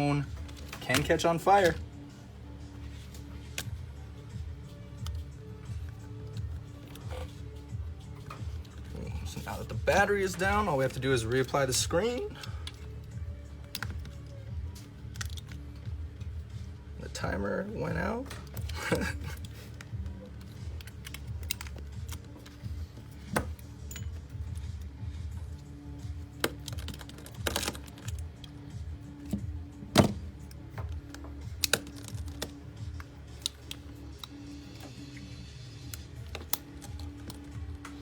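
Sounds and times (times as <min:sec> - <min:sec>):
faint background music: 0:00.0 - 0:38.0.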